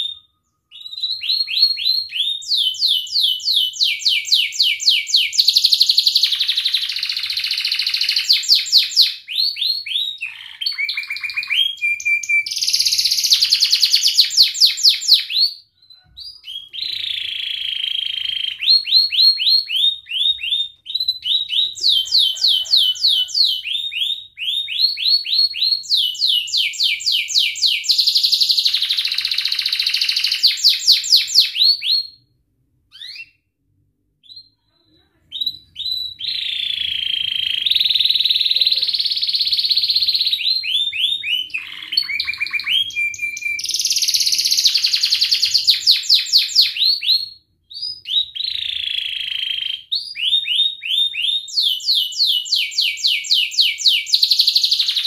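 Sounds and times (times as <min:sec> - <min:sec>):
canary singing: 0:00.0 - 0:32.2, 0:32.9 - 0:33.4, 0:34.2 - 0:55.0.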